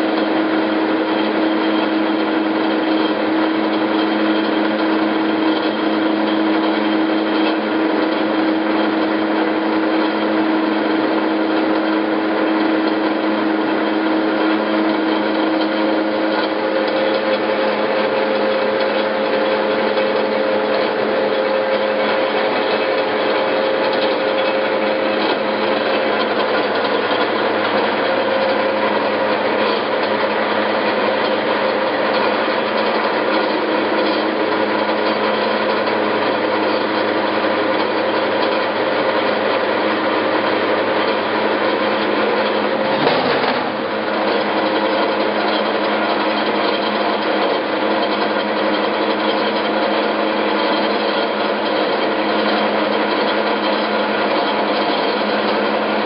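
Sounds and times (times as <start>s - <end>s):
bandsaw running: 0.0s - 56.0s.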